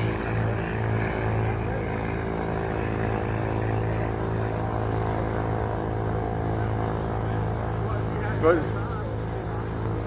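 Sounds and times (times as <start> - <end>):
propeller airplane engine idling: 0.0 - 10.0.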